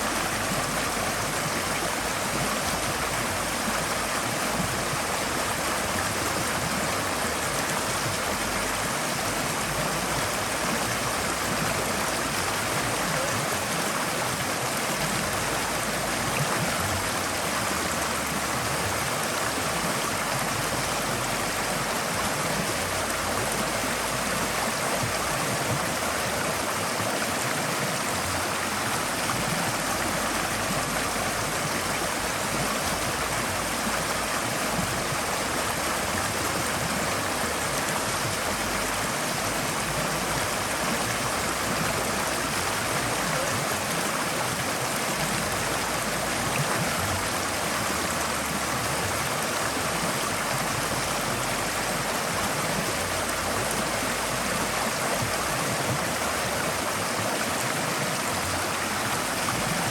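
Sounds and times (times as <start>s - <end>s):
stream gurgling over rocks: 0.0s - 59.9s.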